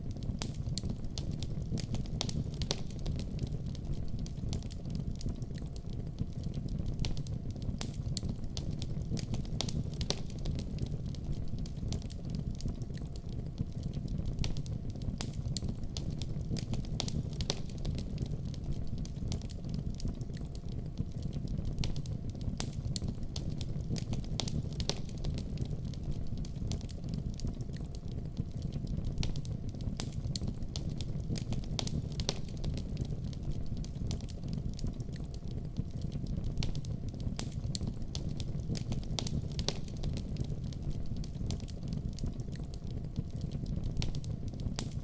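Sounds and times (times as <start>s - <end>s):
low rumble of flames: 0.0s - 45.0s
wood fire crackling: 0.0s - 45.0s
sharp pops and snaps: 0.2s - 45.0s.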